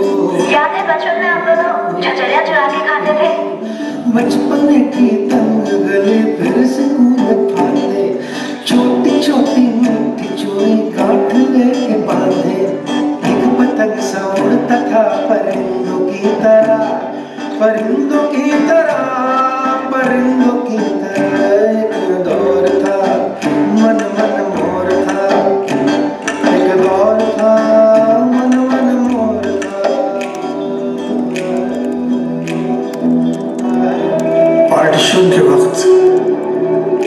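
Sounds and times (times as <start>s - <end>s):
song with plucked strings: 0.0s - 37.0s.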